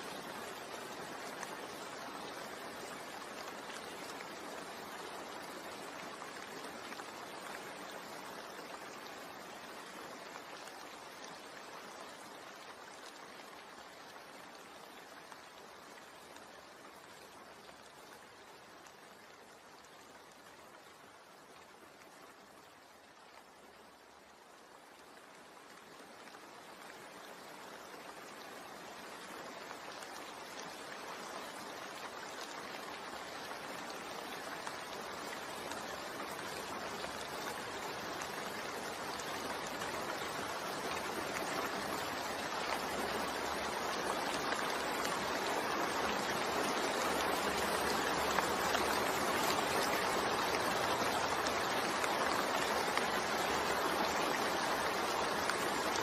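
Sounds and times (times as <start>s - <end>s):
steady rainfall hiss: 0.0s - 56.0s.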